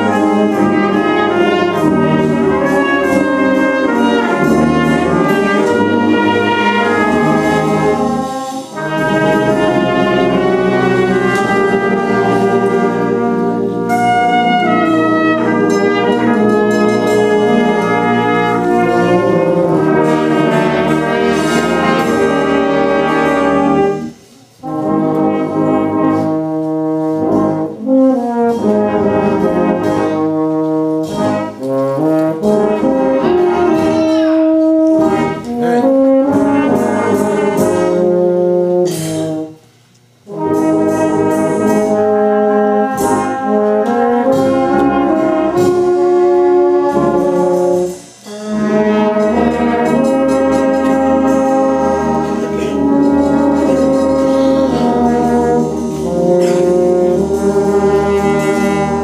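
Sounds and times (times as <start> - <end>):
brass band playing chords: 0.0 - 59.0.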